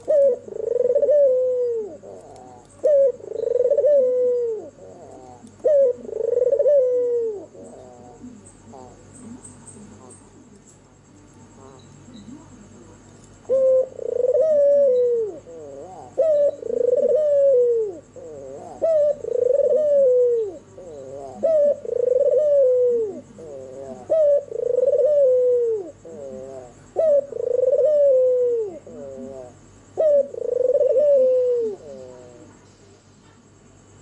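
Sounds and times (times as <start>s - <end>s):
dove cooing: 0.0s - 10.3s, 13.4s - 32.6s.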